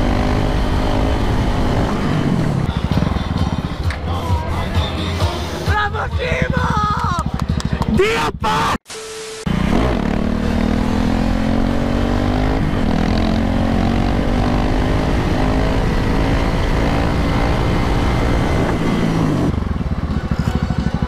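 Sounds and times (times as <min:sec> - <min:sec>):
motorcycle engine accelerating: 0:00.0 - 0:05.2, 0:06.1 - 0:08.0, 0:09.5 - 0:21.0.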